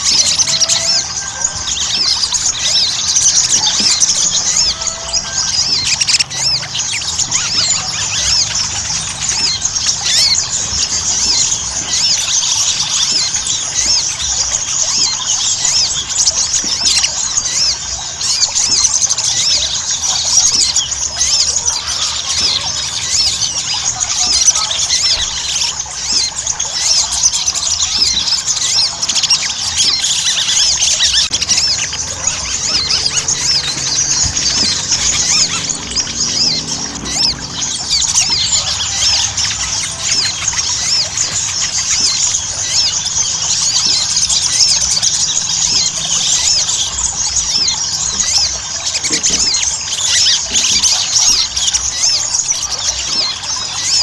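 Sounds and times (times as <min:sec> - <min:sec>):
bird singing rapid chirps: 0:00.0 - 0:54.0.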